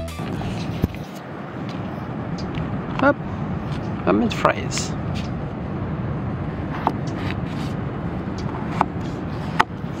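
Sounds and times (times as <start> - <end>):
low background rumble: 0.1 - 10.0.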